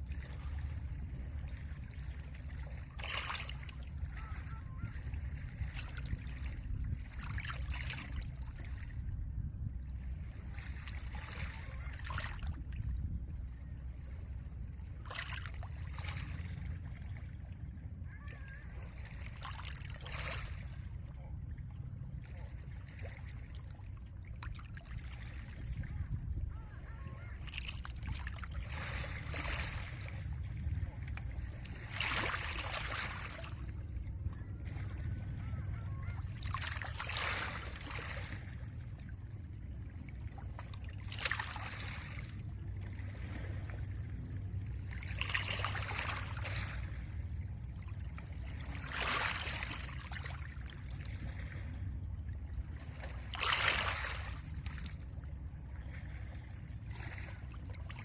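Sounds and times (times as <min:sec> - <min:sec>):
low rumble of wind: 0:00.0 - 0:58.0.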